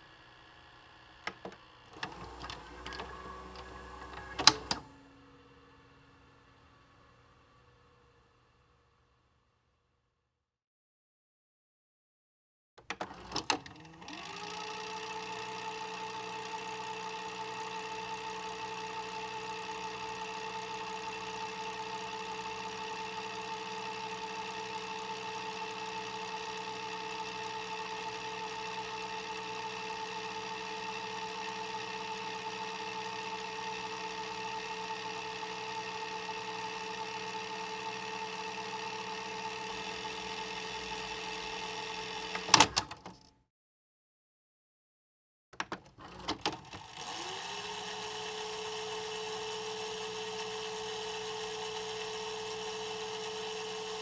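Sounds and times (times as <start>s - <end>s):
tape mechanism whirring hum: 0.0s - 8.2s, 12.8s - 43.2s, 45.7s - 54.0s.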